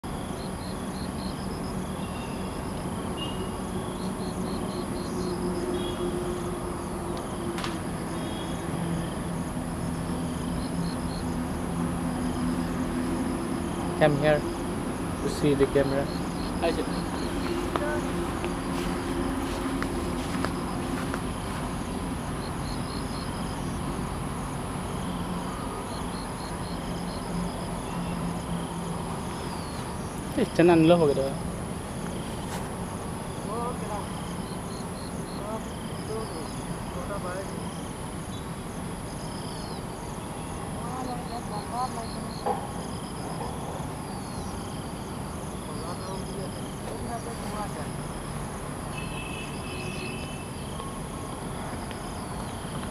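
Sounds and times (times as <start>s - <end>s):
high-pitched insect drone: 0.0s - 52.9s.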